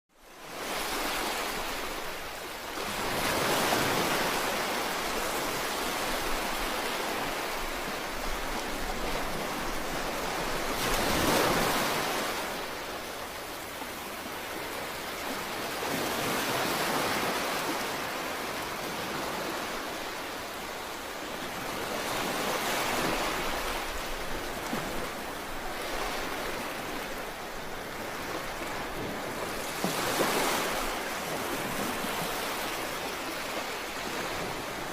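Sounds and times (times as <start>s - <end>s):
sea waves washing onto shore: 0.2s - 34.9s.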